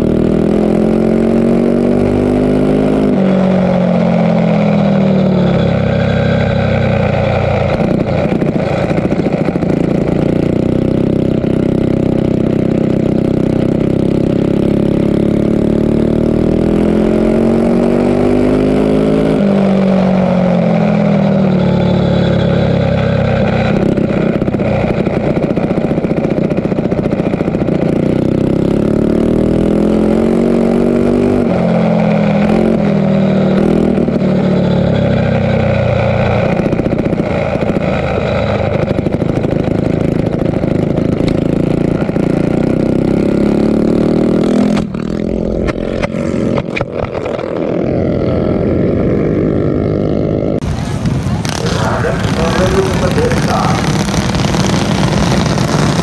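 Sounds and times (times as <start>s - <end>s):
mini bike engine revving: 0.0s - 56.0s.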